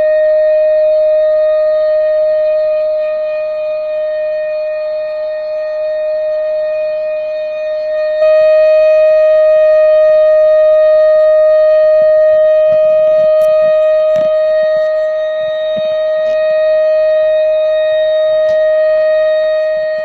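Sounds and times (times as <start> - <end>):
warning siren steady tone: 0.0 - 20.0.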